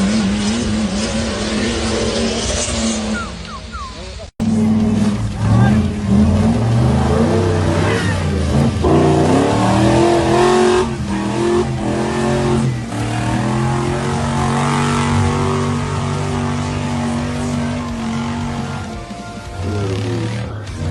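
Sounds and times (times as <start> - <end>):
off-road vehicle engine revving: 0.0 - 20.9.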